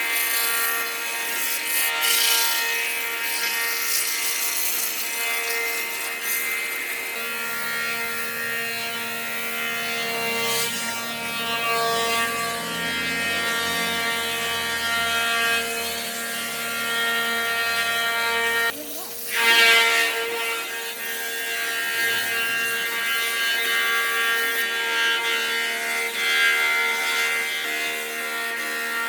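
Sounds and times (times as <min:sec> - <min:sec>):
power tool grinding wood: 0:00.0 - 0:29.0.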